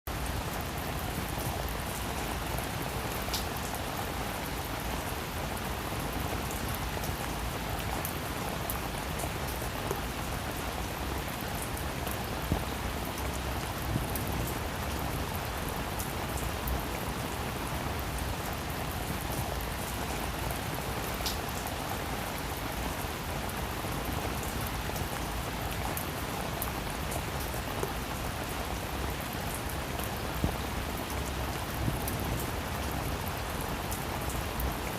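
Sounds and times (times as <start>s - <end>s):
heavy rain on a hard surface: 0.1s - 34.9s.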